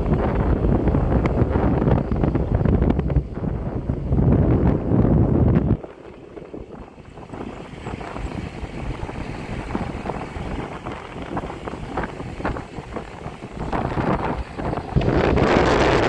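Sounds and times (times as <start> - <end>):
moving vehicle rumble: 0.0 - 16.0
wind buffeting microphone: 0.0 - 16.0.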